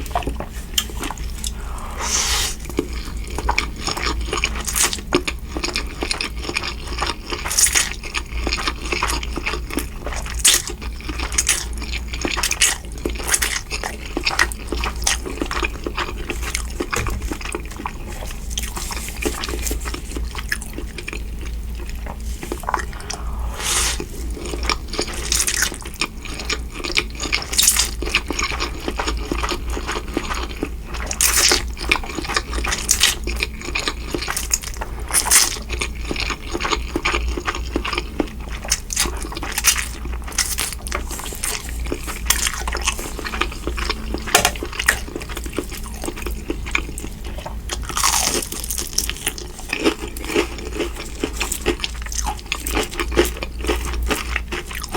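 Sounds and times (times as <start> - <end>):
chewing and crunching: 0.0 - 54.9
low steady hum: 0.0 - 54.9.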